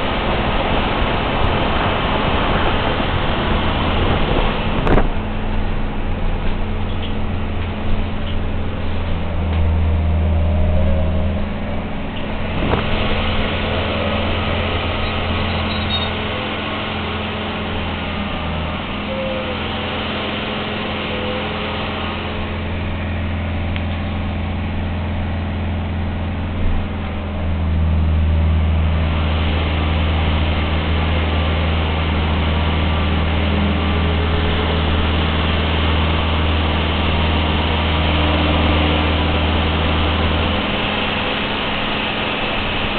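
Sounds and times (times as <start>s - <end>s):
low electric hum: 0.0s - 42.9s
road and tyre hiss: 0.0s - 42.9s.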